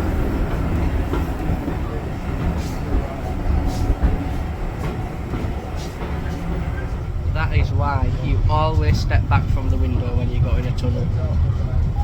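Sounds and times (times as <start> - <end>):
train carriage rumble and rattle: 0.0 - 12.0.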